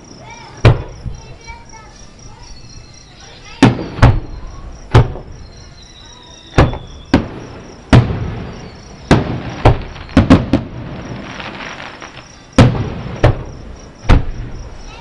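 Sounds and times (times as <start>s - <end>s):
distant fireworks booming: 0.0s - 2.5s, 3.1s - 15.0s
faint fireworks crackling: 0.0s - 15.0s.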